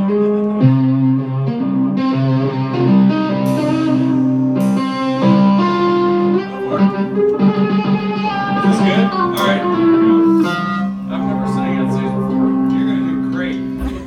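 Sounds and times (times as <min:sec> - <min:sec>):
electric guitars playing chords: 0:00.0 - 0:14.0.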